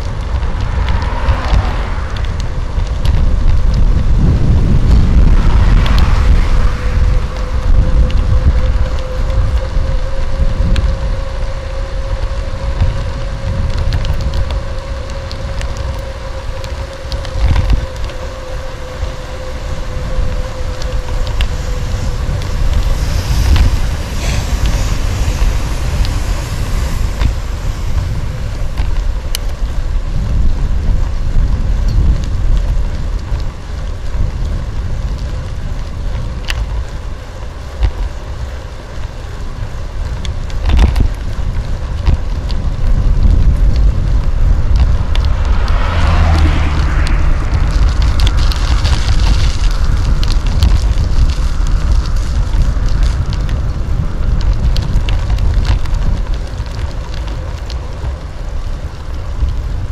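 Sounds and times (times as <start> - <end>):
tyres rumbling on asphalt: 0.0 - 59.9
wind buffeting microphone: 0.0 - 59.9.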